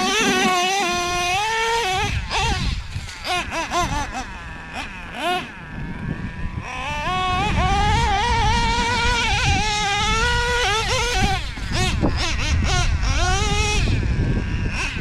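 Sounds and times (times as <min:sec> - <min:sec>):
rc car nitro engine revving: 0:00.0 - 0:15.0.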